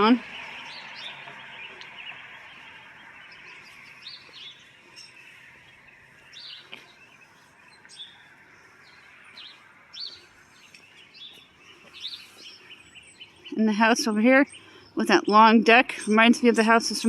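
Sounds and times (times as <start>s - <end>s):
faint outdoor hiss: 0.0s - 17.0s
songbirds chirping: 0.0s - 17.0s.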